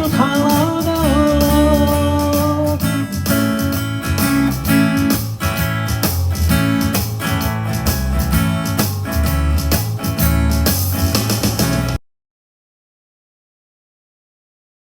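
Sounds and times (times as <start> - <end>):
pop band music with guitar: 0.0 - 12.0.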